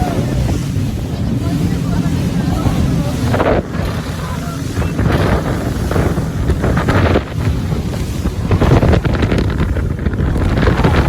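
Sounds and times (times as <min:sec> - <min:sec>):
water rushing: 0:00.0 - 0:11.0
wind buffeting microphone: 0:00.0 - 0:11.0.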